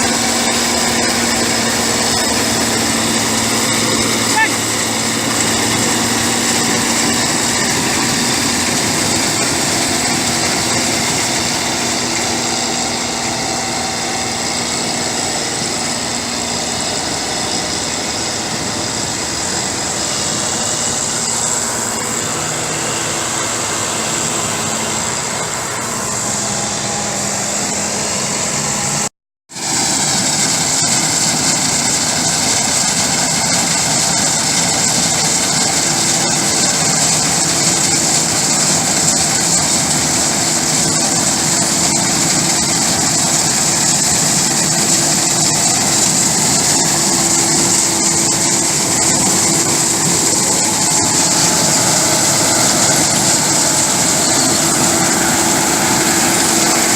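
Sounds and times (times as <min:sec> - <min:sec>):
high whine: 0:00.0 - 0:56.9
machinery engine running: 0:00.0 - 0:56.9.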